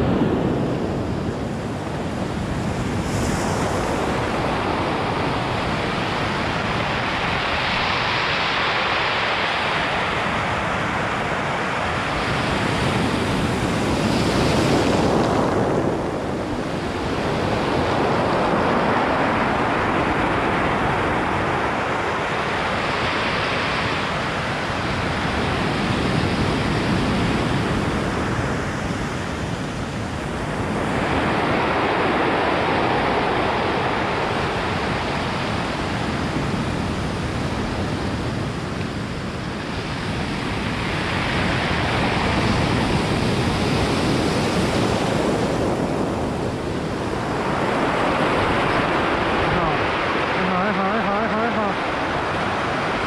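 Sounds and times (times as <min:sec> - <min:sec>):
surf on pebble beach: 0:00.0 - 0:53.0.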